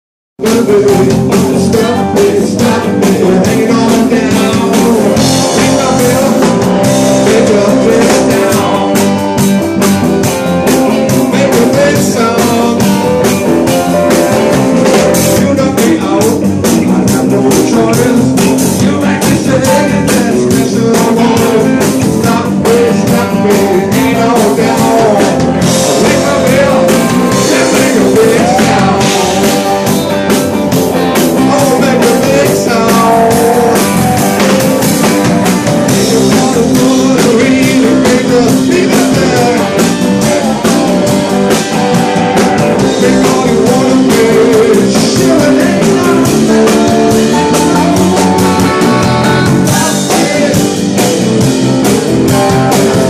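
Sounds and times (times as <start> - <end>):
drum kit beat: 0.4 - 53.0
electric guitars: 0.4 - 53.0
live rock band playing: 0.4 - 53.0.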